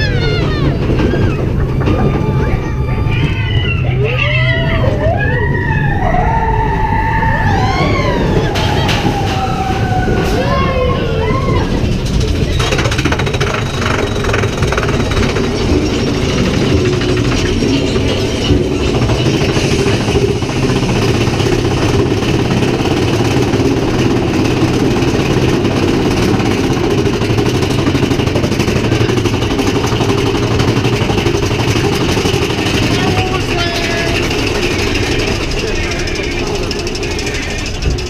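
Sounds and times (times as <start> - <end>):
roller coaster rumbling on track: 0.0 - 38.0.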